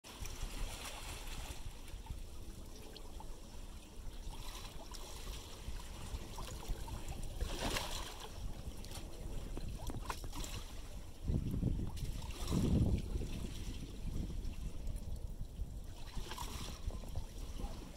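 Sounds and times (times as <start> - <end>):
waves lapping against stone wall: 0.1 - 17.9.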